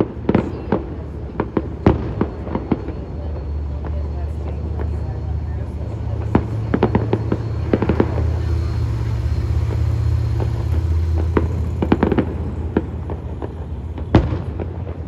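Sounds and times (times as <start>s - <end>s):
fireworks bangs and crackling: 0.0s - 15.0s
low rumble: 0.8s - 15.0s.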